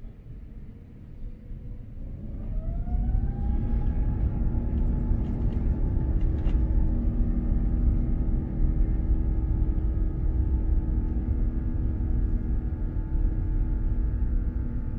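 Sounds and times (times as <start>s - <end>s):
jet engine whine: 0.0s - 14.9s.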